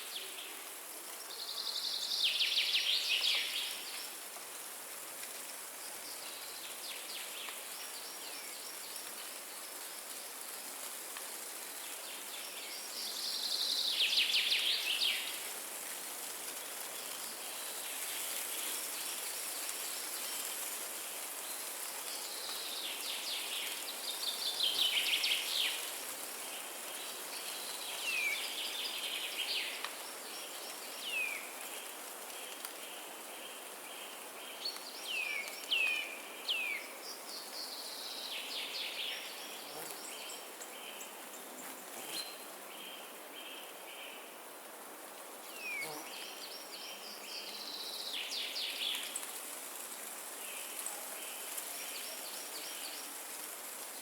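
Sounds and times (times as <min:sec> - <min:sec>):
wind rushing through trees: 0:00.0 - 0:54.0.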